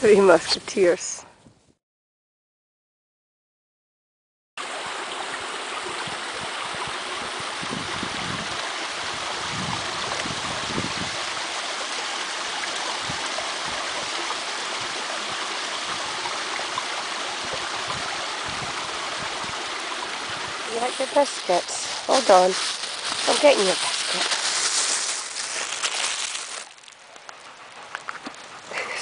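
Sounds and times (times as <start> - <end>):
stream rushing over rocks: 4.6 - 29.0.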